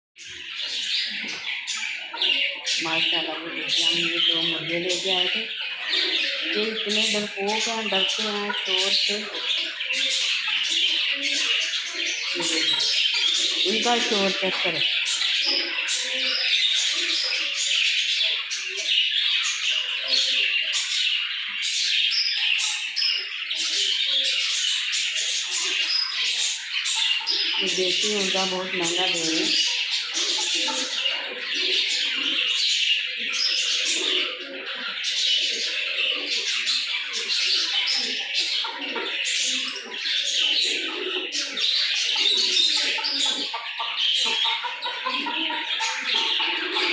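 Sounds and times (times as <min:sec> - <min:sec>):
many birds chirping and squawking: 0:00.2 - 0:46.9.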